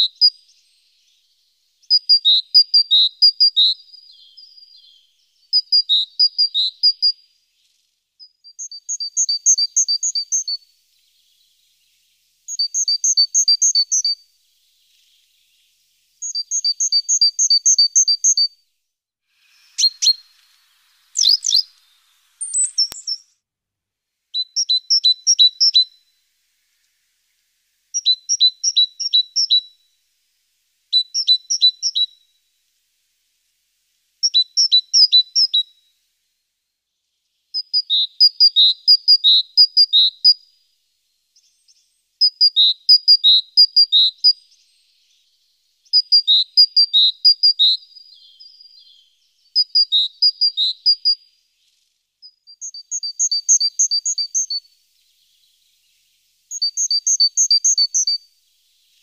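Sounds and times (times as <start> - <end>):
small songbird singing: 0.0 - 23.5, 24.3 - 59.0.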